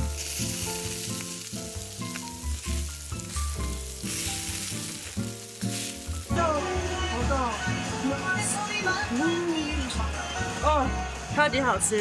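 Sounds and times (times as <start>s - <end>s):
meat sizzling on grill: 0.0s - 11.8s
background music: 0.0s - 12.0s.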